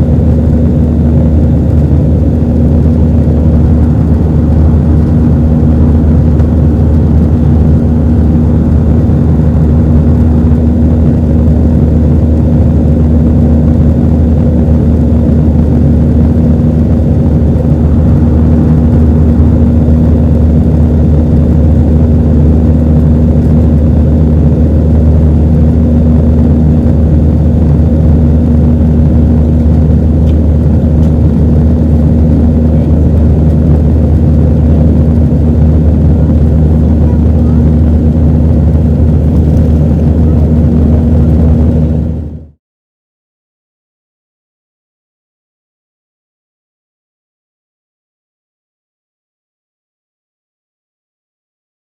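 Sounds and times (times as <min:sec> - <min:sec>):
airplane cabin rumble: 0:00.0 - 0:42.6
constant low hum: 0:00.0 - 0:42.6.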